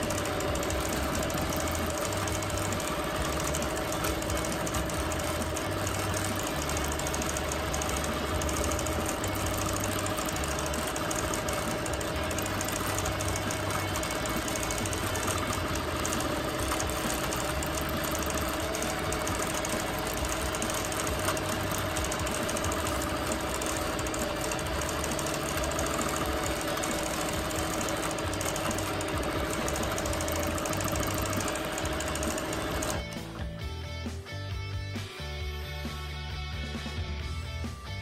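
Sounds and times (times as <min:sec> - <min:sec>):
quilting machine motor hum: 0:00.0 - 0:33.6
guitar music: 0:00.0 - 0:38.0.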